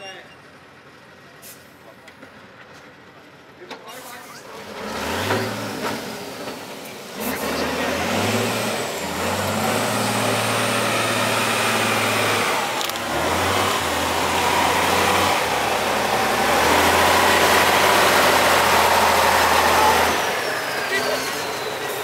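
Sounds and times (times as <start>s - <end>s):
diesel truck engine straining: 0.0s - 22.0s.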